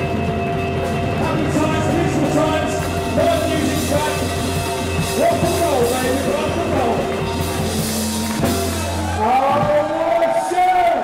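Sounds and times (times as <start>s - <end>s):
drums: 0.0s - 11.0s
electric guitar: 0.0s - 11.0s
live rock band: 0.0s - 11.0s.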